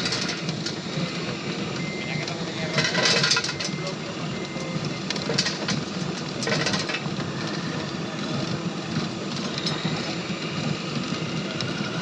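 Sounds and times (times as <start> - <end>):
model truck motor humming: 0.0 - 12.0.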